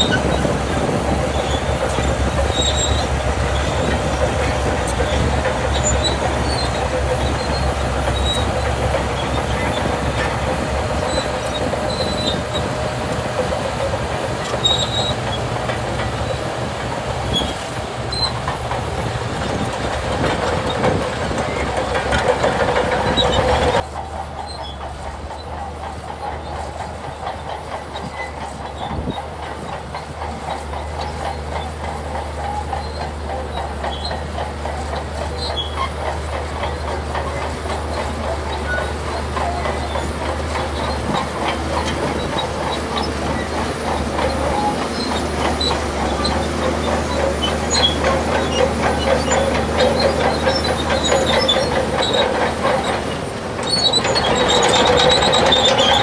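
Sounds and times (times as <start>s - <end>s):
diesel engine running: 0.0s - 56.0s
steel tracks clanking: 0.0s - 56.0s.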